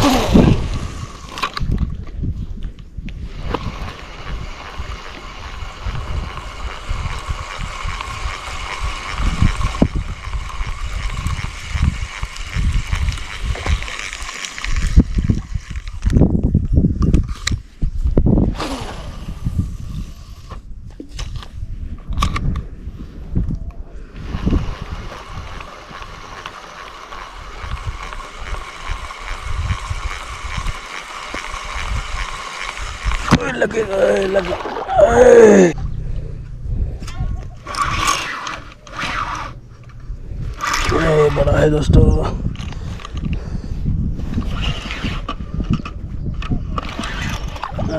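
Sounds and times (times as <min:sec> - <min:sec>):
fishing reel whirring: 0:00.0 - 0:02.0, 0:03.3 - 0:17.6, 0:24.1 - 0:43.5, 0:44.2 - 0:47.9
wind buffeting microphone: 0:00.0 - 0:26.4, 0:27.0 - 0:47.9.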